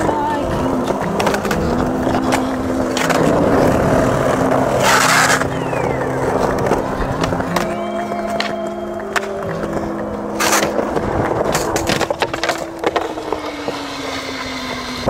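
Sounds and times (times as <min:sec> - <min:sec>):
skateboard clacking: 0:00.0 - 0:15.0
skateboard scraping: 0:00.0 - 0:15.0
skateboard wheels rolling on concrete: 0:00.0 - 0:15.0.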